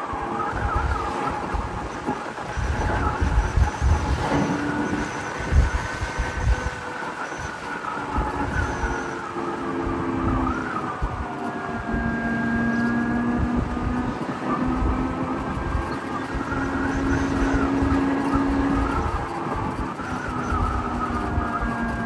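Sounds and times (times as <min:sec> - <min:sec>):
electric motor whine: 0:00.0 - 0:22.0
wind noise on microphone: 0:00.0 - 0:22.0.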